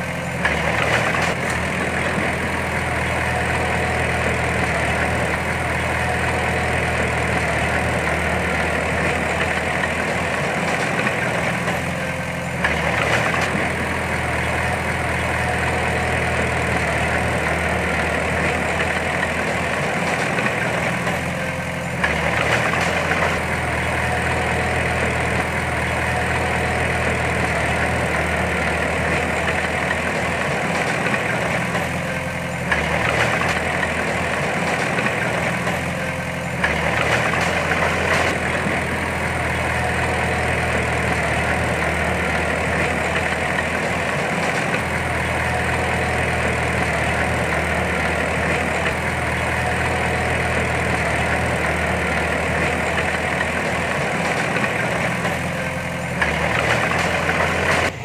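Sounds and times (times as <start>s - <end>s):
heavy diesel engine surging: 0.0s - 58.0s.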